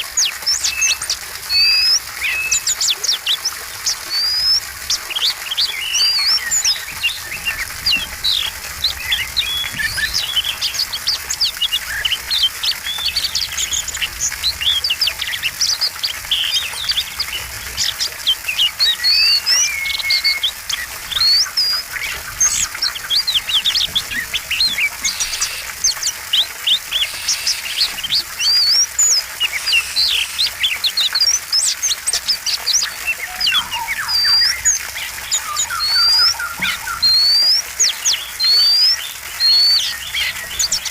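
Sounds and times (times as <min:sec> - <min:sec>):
songbird singing fast varied song: 0:00.2 - 0:40.9.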